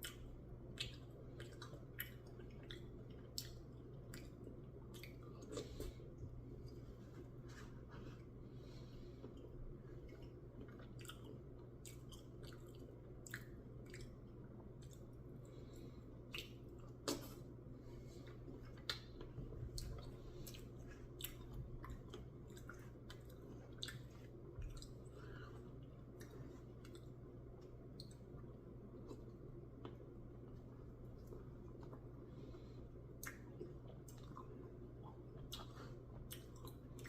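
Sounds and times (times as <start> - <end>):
faint chewing: 0.0 - 37.0
steady low hum: 0.0 - 37.0.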